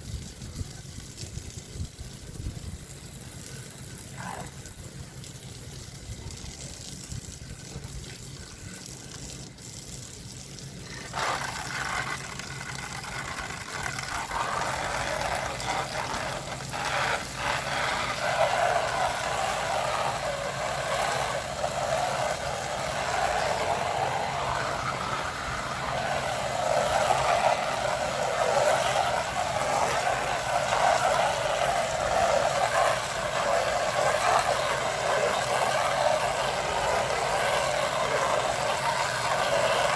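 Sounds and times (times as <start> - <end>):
hose sprayer spraying water on wall: 0.0 - 39.9.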